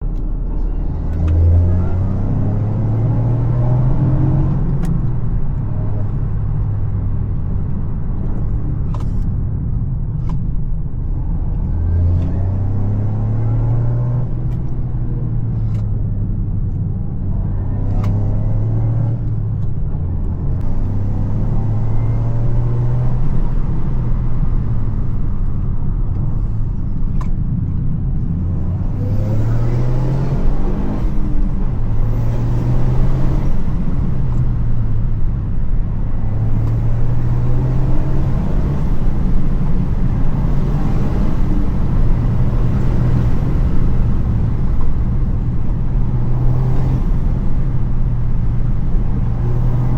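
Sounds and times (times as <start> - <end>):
car engine revving under load: 0.0 - 49.9.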